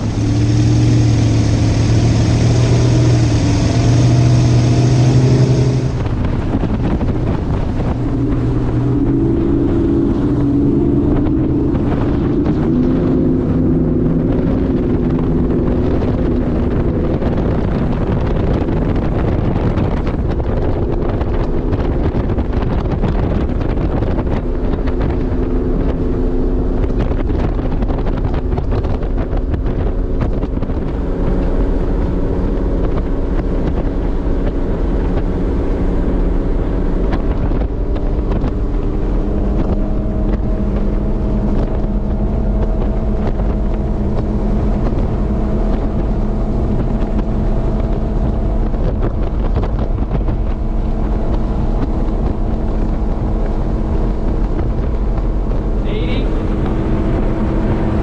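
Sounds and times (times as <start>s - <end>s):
powerboat engines running hard: 0.0s - 58.0s
wind buffeting microphone: 0.0s - 58.0s.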